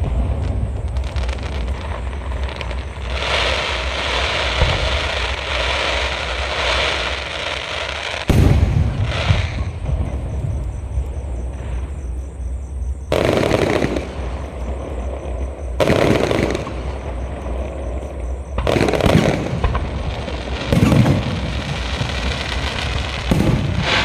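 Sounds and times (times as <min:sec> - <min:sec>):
firework crackling: 0:00.0 - 0:24.0
firework shells booming: 0:00.0 - 0:24.0.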